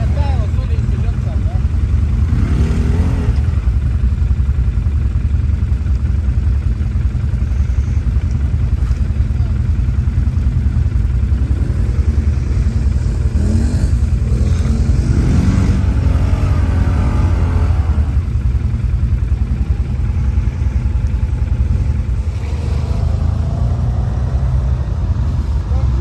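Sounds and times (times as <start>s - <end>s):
quad bike engine revving: 0.0s - 5.3s, 6.8s - 26.0s.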